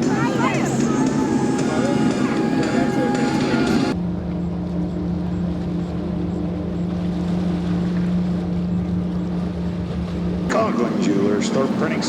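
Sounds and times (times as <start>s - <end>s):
motorboat engines humming: 0.0s - 12.0s.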